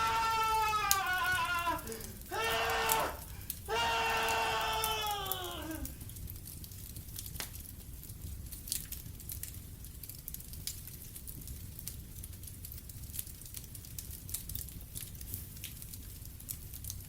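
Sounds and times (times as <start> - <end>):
fire crackling and popping: 0.0 - 17.0
low fire rumble: 0.0 - 17.0.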